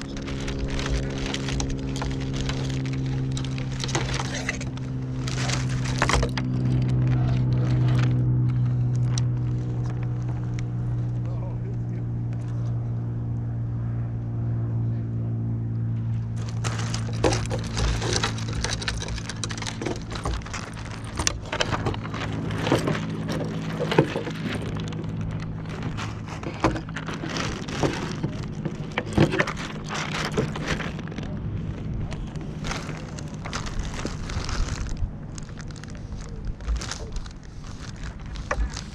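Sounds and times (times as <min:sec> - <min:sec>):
sail luffing with crackling snaps: 0:00.0 - 0:11.3, 0:16.3 - 0:38.9
low hum: 0:00.0 - 0:38.9.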